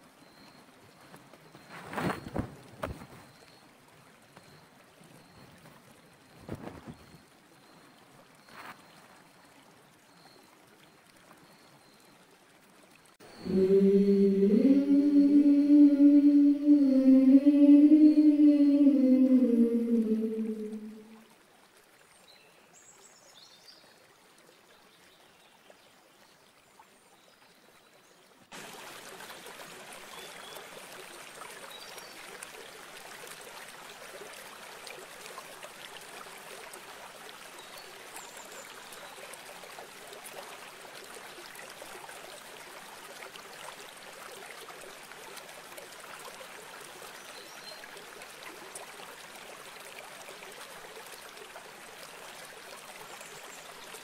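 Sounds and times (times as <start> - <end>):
flowing river: 0.0 - 54.0.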